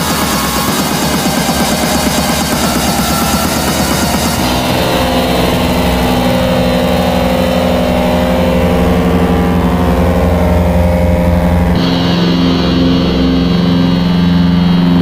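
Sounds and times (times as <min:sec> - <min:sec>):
harsh electronic drone: 0:00.0 - 0:15.0
low pulsing rumble: 0:00.0 - 0:15.0.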